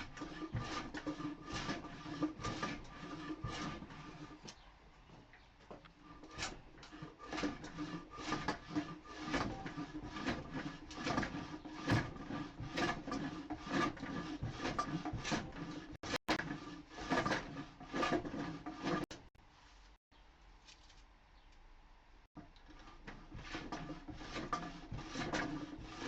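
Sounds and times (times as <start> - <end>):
hand plane scraping wood: 0.0 - 4.6, 5.8 - 19.3, 22.6 - 26.0.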